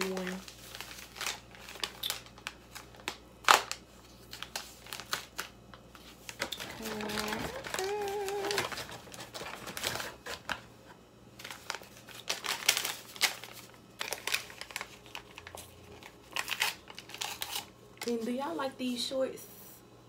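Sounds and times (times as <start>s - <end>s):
paper packet crinkling and tearing: 0.0s - 10.7s, 11.4s - 18.2s.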